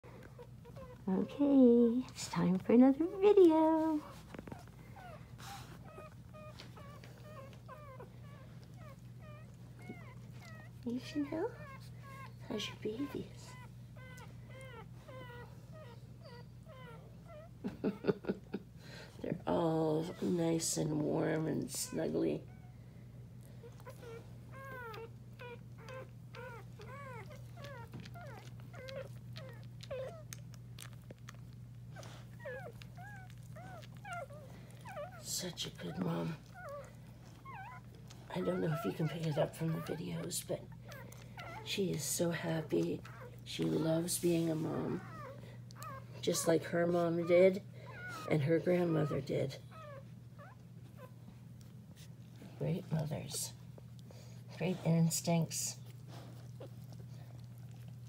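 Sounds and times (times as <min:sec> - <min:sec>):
steady low hum: 0:00.0 - 0:58.0
puppies squeaking: 0:00.1 - 0:01.3, 0:02.0 - 0:18.2, 0:23.5 - 0:58.0.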